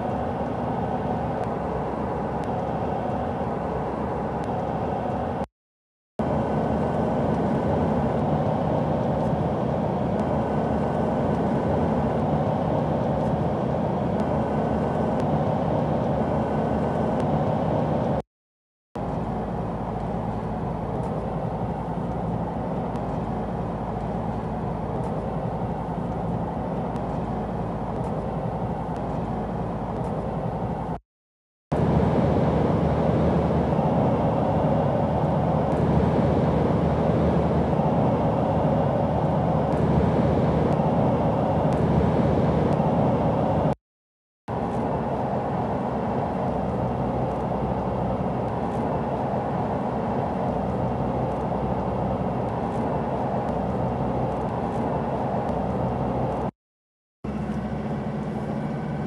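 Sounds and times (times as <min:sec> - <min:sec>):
road and engine noise in cabin: 0:00.0 - 0:05.5, 0:06.2 - 0:18.2, 0:19.0 - 0:31.0, 0:31.8 - 0:43.8, 0:44.5 - 0:56.5, 0:57.3 - 0:59.0.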